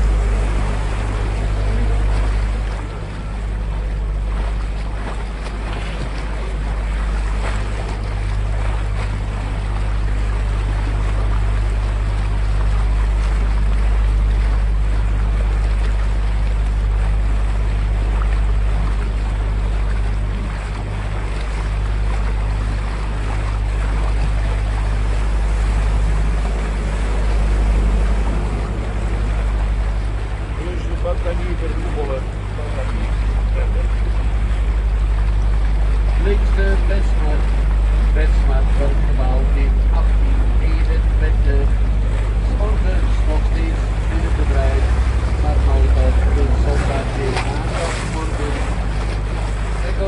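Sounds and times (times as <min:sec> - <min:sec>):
boat motor running: 0:00.0 - 0:50.0
wake water churning: 0:00.0 - 0:50.0.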